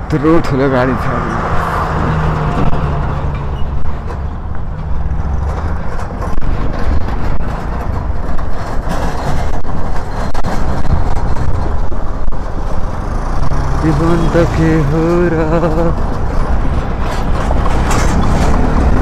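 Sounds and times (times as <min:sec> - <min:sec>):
motorcycle engine rumble: 0:01.9 - 0:19.0.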